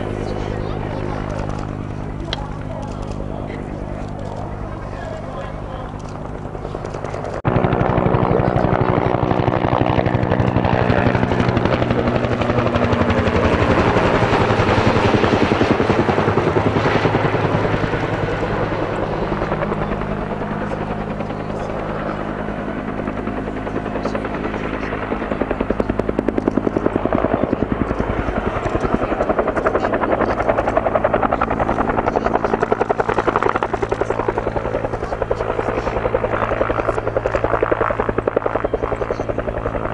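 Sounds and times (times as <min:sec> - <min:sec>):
helicopter engine hum: 0:00.0 - 0:39.9
helicopter rotor chopping: 0:00.0 - 0:39.9.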